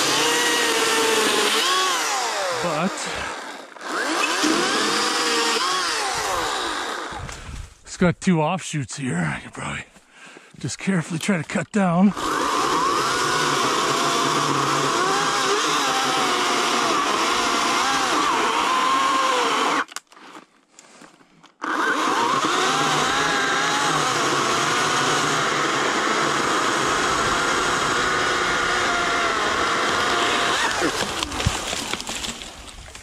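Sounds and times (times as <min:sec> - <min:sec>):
electric chainsaw cutting wood: 0:00.0 - 0:07.5, 0:12.1 - 0:20.1, 0:21.6 - 0:33.0.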